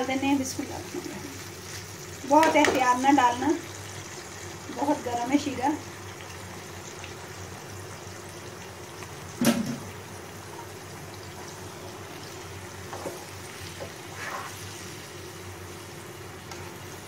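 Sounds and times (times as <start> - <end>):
syrup simmering in a pan: 0.8 - 17.0.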